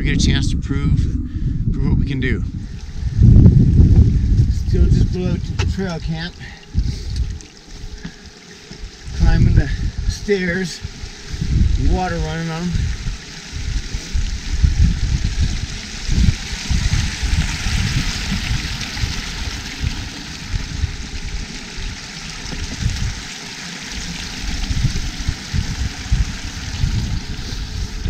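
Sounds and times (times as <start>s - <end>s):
low microphone rumble: 0.0s - 8.2s, 8.8s - 23.3s, 23.9s - 28.0s
water trickling over stone steps: 4.4s - 28.0s.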